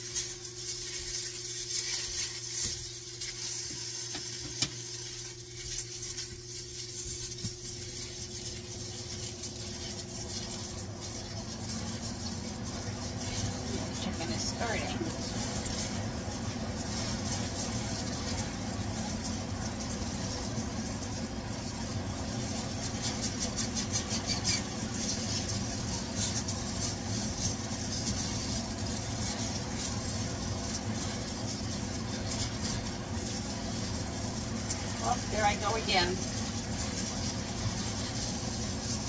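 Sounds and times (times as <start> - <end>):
spatula scraping and tapping: 0.0 - 35.0
food sizzling in a wok: 0.0 - 39.0
steady low hum: 0.0 - 39.0.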